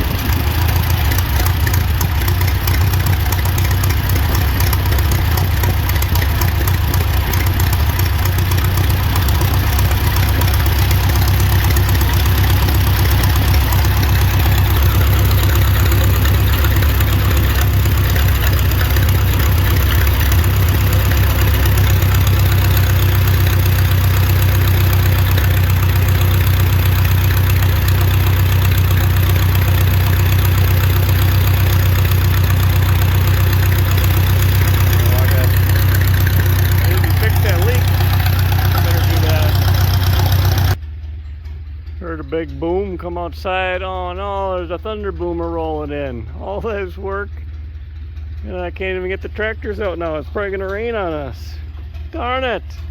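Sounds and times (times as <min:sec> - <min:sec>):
tractor engine idling: 0:00.0 - 0:52.9.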